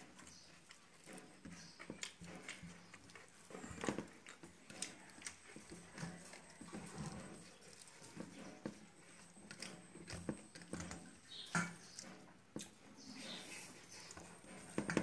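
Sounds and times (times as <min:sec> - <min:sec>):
chewing and lip smacks: 0:00.0 - 0:14.8.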